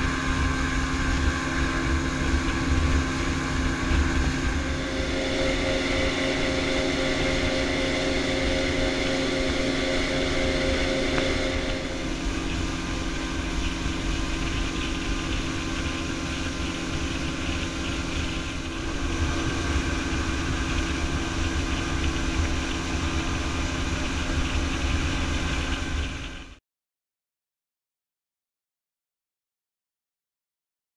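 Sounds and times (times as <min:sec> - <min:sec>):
outboard motor running: 0:00.0 - 0:26.6
wind and water rushing: 0:00.0 - 0:26.6.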